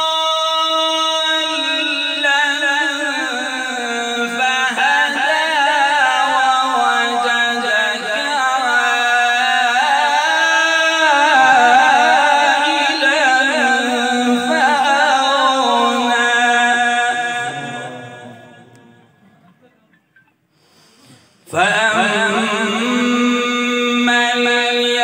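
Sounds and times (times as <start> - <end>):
man reciting melodically: 0.0 - 19.6, 21.4 - 25.0.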